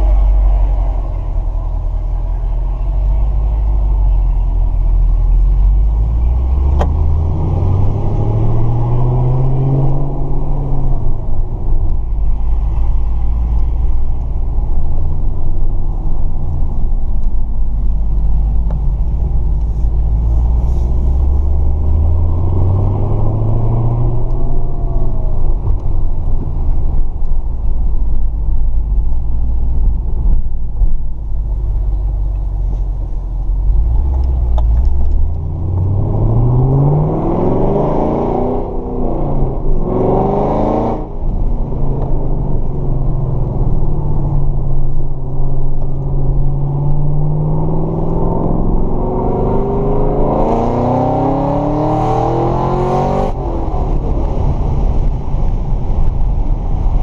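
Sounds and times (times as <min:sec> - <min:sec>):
car engine rumble from inside: 0:00.0 - 0:57.0.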